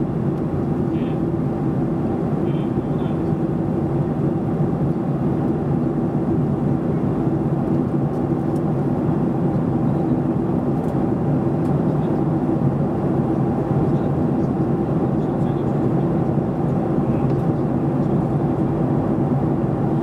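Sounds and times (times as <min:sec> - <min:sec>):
airplane cabin engine and airflow noise: 0:00.0 - 0:20.0.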